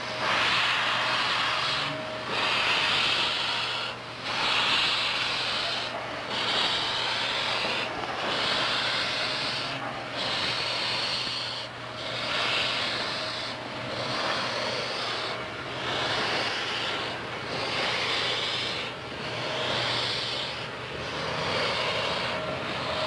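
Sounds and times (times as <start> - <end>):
faint steady hum: 0.0 - 23.0
steam locomotive chuffing: 0.0 - 23.0.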